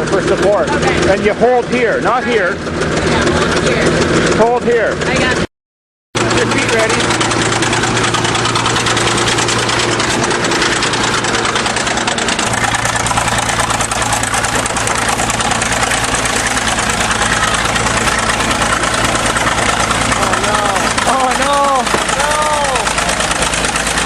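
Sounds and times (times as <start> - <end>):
bulldozer diesel engine idling: 0.0 - 5.5, 6.2 - 24.0.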